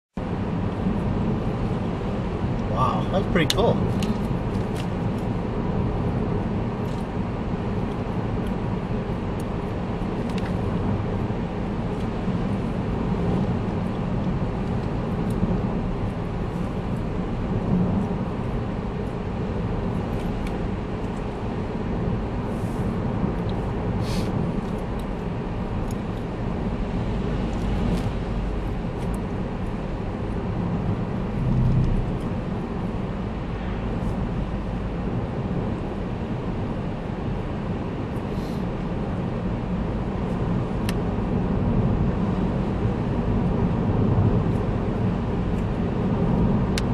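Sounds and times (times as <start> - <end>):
car interior engine and road noise: 0.2 - 46.9.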